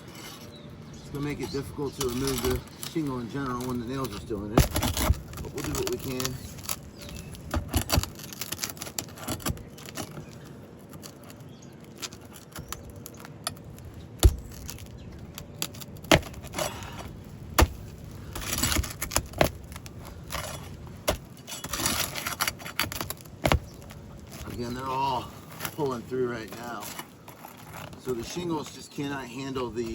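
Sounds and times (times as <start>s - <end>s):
pry bar scraping under shingles: 0.0s - 29.9s.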